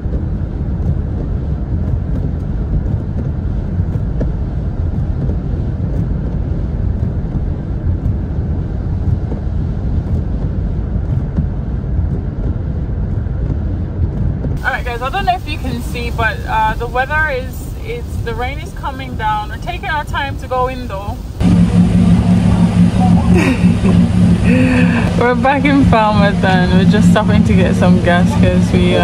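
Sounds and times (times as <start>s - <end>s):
car engine rumble: 0.0s - 29.0s
tyres on a wet road: 0.0s - 29.0s.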